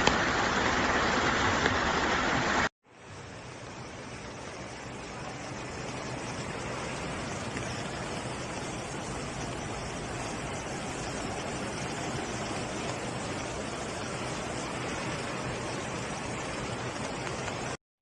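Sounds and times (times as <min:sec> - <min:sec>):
floodwater rushing: 0:00.0 - 0:17.8.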